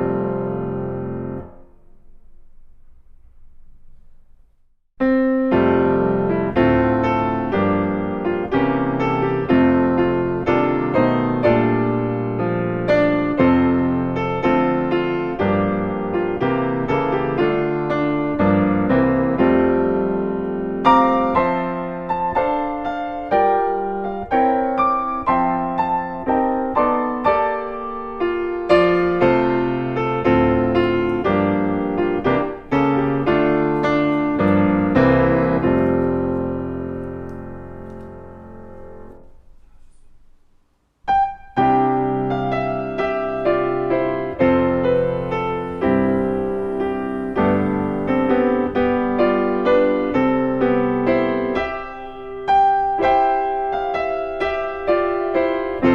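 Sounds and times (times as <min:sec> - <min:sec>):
gentle piano music: 0:00.0 - 0:01.9, 0:05.0 - 0:40.1, 0:41.1 - 0:55.9.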